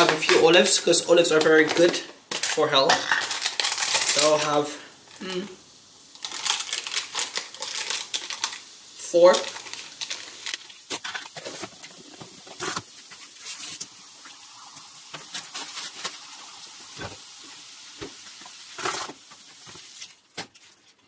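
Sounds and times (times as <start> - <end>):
meat sizzling in a pan: 2.3 - 20.1.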